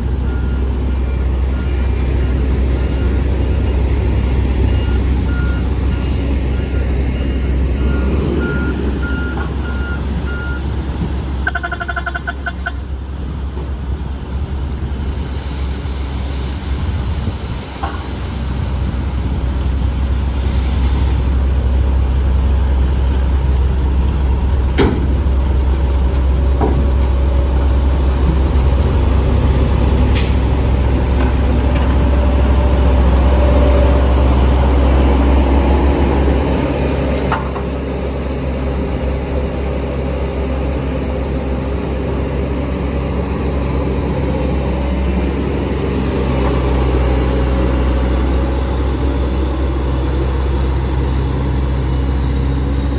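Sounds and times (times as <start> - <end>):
diesel engine drone: 0.0 - 52.9.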